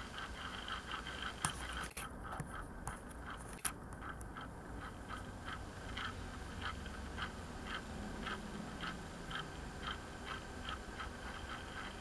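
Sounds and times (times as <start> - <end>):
low steady hum: 0.0 - 12.0
turntable ticking: 0.0 - 12.0.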